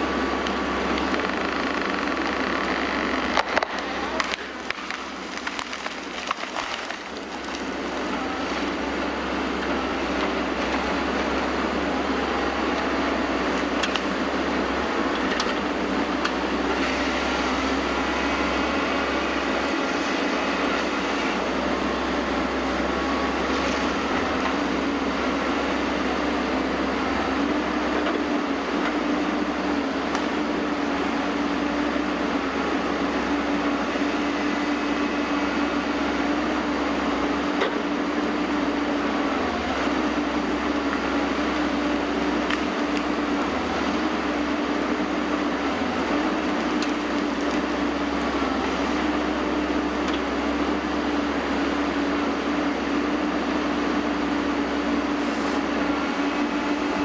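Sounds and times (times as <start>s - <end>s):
diesel engine drone: 0.0s - 57.0s.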